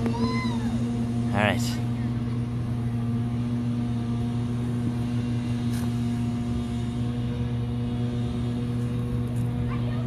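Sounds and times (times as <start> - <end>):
motor droning: 0.0 - 10.0.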